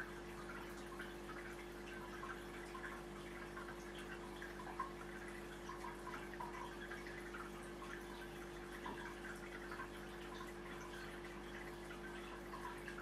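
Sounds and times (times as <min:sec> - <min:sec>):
aquarium filter hum: 0:00.0 - 0:13.0
water trickling in drips: 0:00.0 - 0:13.0.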